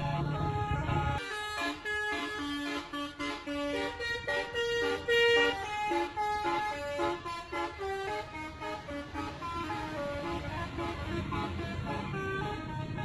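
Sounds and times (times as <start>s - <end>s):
bus air horn playing a tune: 0.0s - 13.0s.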